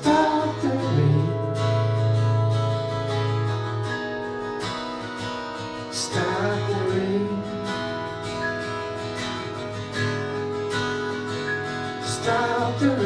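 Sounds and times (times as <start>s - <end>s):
acoustic guitar strumming: 0.0s - 13.0s
held keyboard notes: 0.0s - 13.0s.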